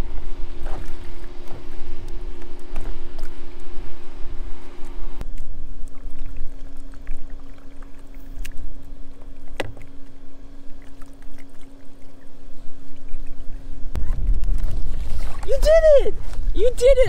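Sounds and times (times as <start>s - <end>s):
low rumble: 0.0s - 16.6s
steady hum: 0.0s - 17.0s.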